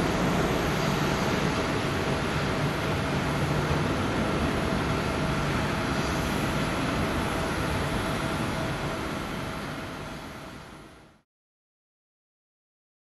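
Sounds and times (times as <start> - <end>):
jet engines at take-off thrust: 0.0 - 11.2.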